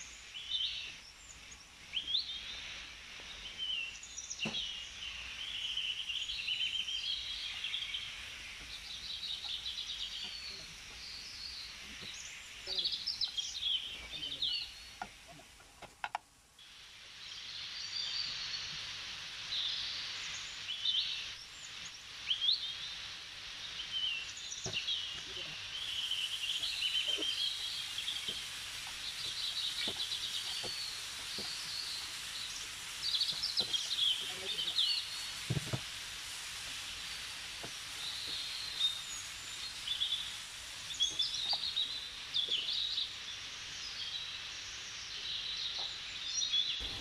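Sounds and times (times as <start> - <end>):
small birds chirping and trilling: 0.0 - 15.6, 17.0 - 35.8, 37.0 - 47.0.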